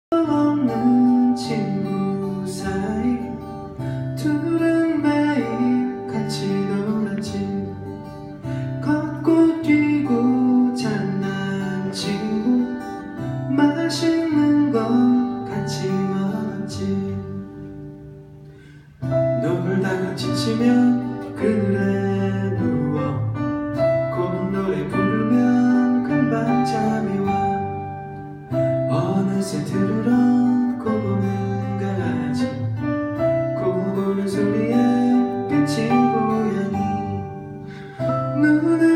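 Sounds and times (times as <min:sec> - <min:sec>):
man singing into a microphone: 0:00.1 - 0:17.7, 0:19.1 - 0:27.9, 0:28.7 - 0:38.9
acoustic guitar strumming chords: 0:00.1 - 0:38.9.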